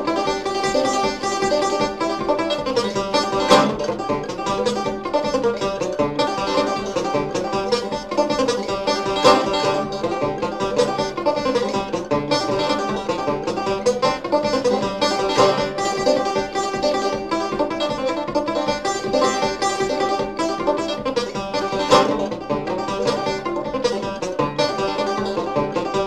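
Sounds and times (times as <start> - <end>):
banjo playing old-time tune: 0.0 - 26.0.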